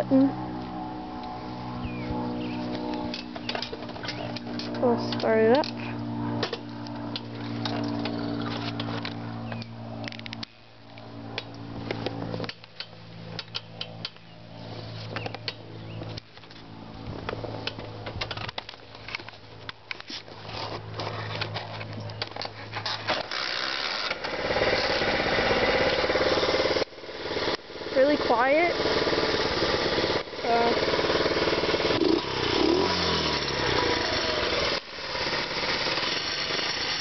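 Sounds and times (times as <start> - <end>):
quiet dirt bike engine running: 0.0 - 37.0.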